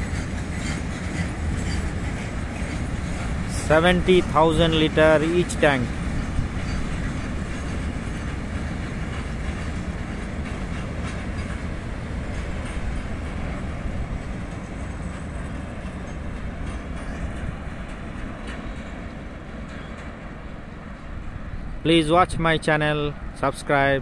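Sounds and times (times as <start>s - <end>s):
freight train wheels on rails: 0.0s - 24.0s.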